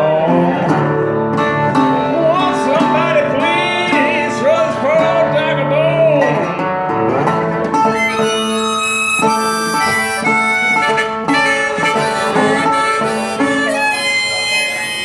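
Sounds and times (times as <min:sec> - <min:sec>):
acoustic guitar: 0:00.0 - 0:15.0
harmonica bending notes: 0:00.0 - 0:15.0.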